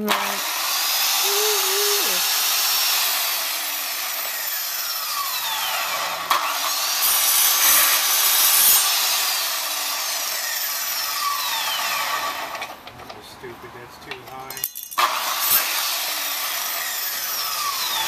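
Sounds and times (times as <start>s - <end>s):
miter saw cutting wood: 0.0s - 13.2s, 13.8s - 18.0s.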